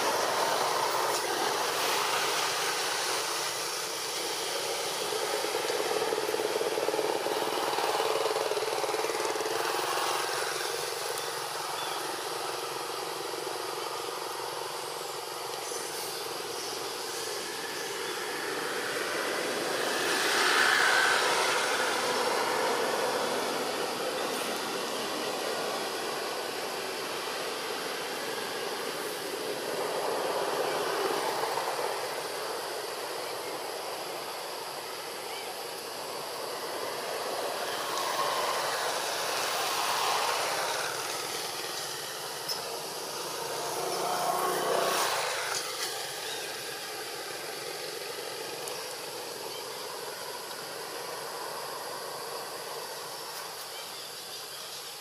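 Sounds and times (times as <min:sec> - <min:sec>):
vehicles passing by: 0:00.0 - 0:54.5.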